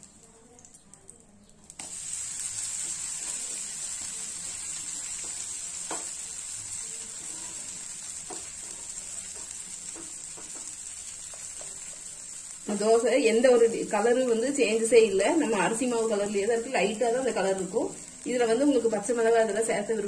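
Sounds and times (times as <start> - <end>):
faint crackles: 0.0 - 19.6
pancake sizzling on hot pan: 0.0 - 20.0.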